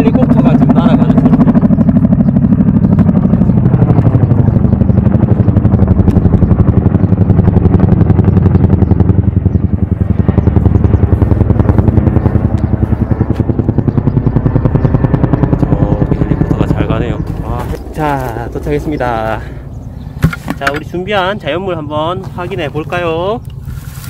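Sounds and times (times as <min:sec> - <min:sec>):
helicopter rotor blades beating: 0:00.0 - 0:24.0.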